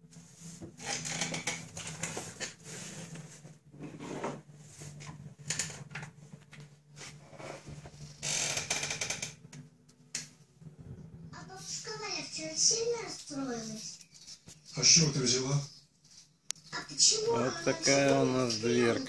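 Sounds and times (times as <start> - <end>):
rustling and handling noises: 0.0 - 8.1, 11.7 - 19.0
steady low hum: 0.0 - 19.0.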